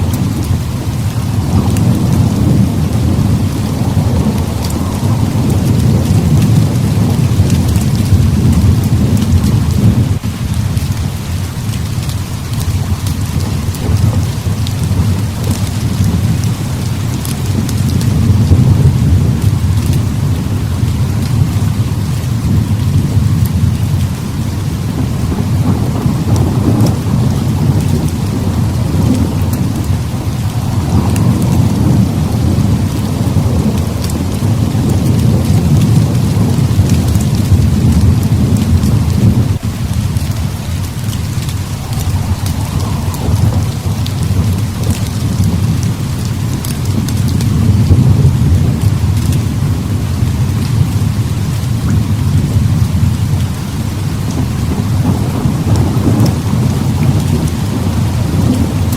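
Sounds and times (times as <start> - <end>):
heavy rain: 0.0 - 58.9
thunder rumbling: 0.0 - 58.9.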